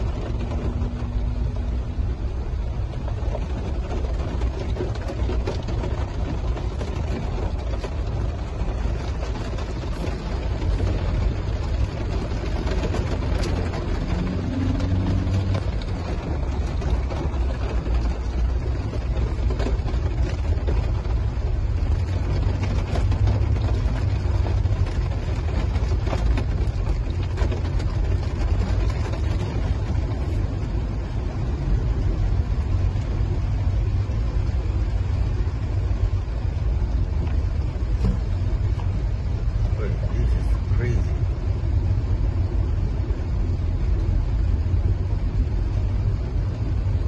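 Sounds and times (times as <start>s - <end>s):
car engine and road rumble: 0.0s - 47.0s
rain hitting windscreen: 0.0s - 47.0s.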